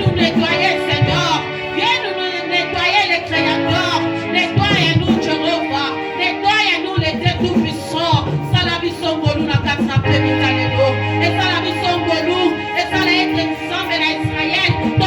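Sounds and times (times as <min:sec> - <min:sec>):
sustained instrumental chords: 0:00.0 - 0:15.0.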